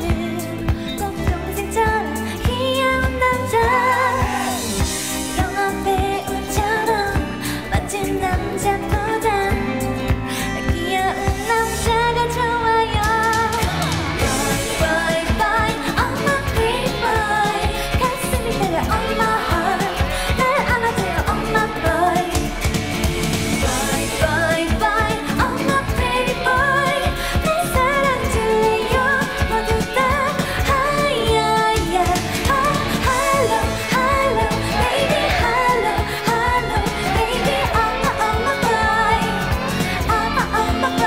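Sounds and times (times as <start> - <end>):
pop song with sung vocals: 0.0 - 41.0.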